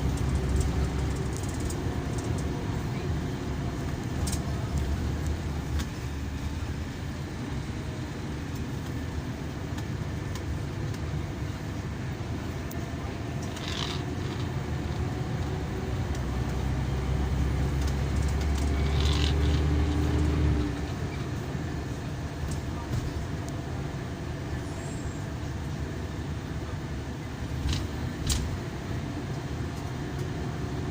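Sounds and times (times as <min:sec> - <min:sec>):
diesel engine drone: 0:00.0 - 0:30.9
road noise: 0:00.0 - 0:30.9.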